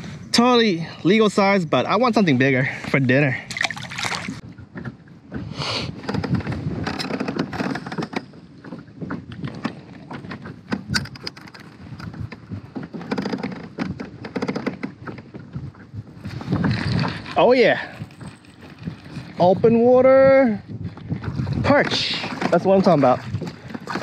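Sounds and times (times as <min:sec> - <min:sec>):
water and wind wash: 0:00.0 - 0:24.0.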